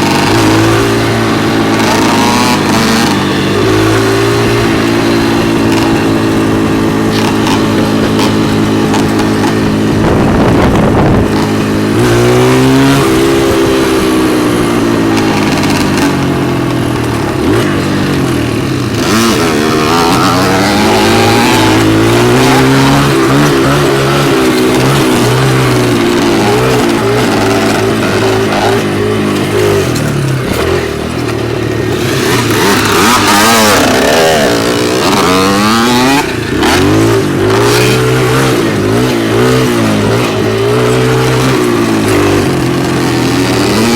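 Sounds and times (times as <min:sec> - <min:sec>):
dirt bike engine revving: 0:00.0 - 0:43.9
second engine: 0:00.0 - 0:43.9.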